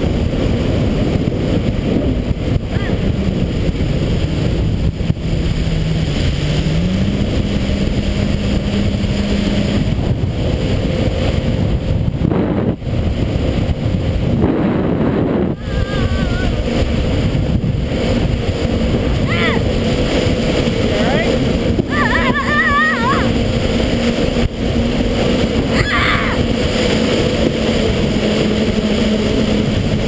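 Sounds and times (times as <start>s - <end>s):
personal watercraft engine running: 0.0s - 30.0s
wind and water rushing: 0.0s - 30.0s.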